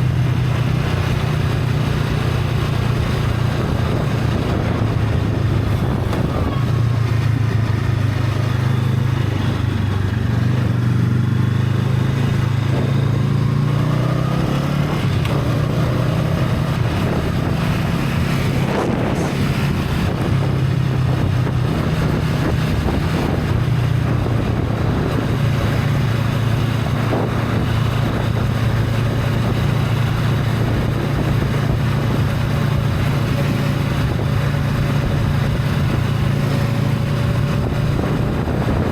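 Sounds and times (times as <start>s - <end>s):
motorcycle engine running: 0.0s - 38.9s
wind on microphone: 0.0s - 38.9s.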